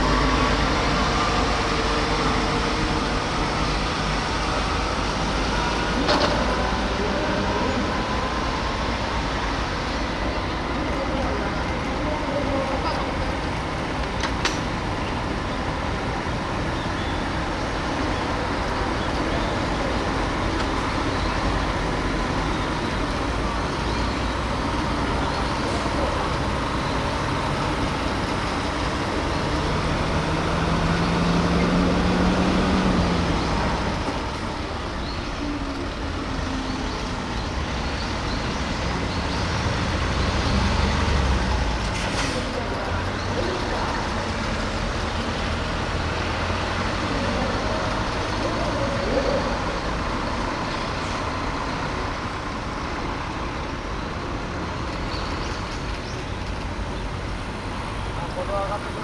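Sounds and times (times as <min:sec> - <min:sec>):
road noise: 0:00.0 - 0:59.0
vehicle engines rumbling: 0:00.0 - 0:59.0.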